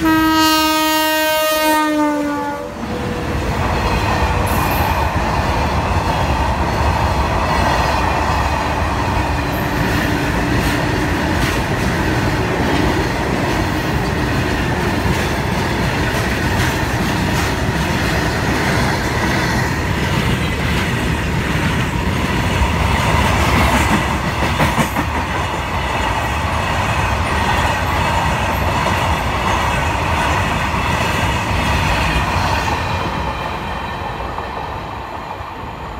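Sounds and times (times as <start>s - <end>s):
freight train wheels rumbling: 0.0s - 35.9s.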